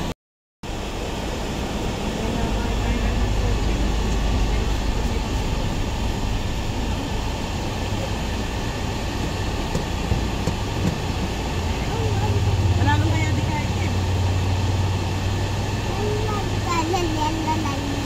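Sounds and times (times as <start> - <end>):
van engine rumble: 0.0 - 18.0.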